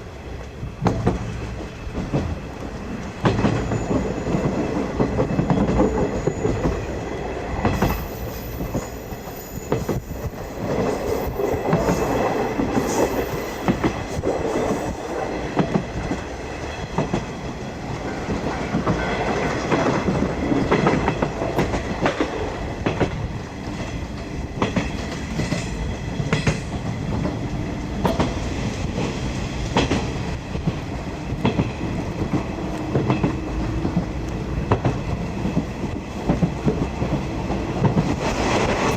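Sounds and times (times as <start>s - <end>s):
train wheels rumbling on rails: 0.0s - 38.9s
wheels clacking over rail joints: 0.4s - 38.9s.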